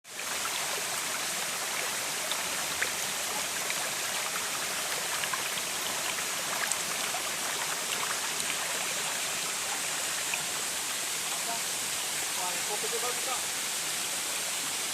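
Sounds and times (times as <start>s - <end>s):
waterfall rushing: 0.1s - 14.9s.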